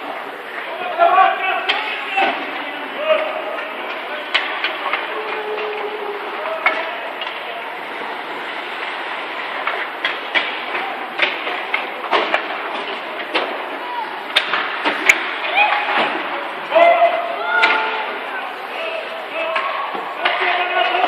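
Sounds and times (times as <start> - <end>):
hockey sticks and puck clacking: 0.0 - 21.0
skates scraping ice: 0.0 - 21.0
steady hall noise: 0.0 - 21.0.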